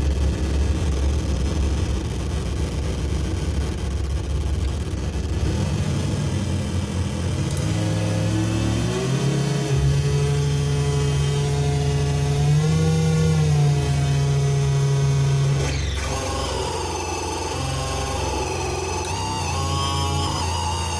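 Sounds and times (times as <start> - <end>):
noise synthesizer droning: 0.0 - 20.9.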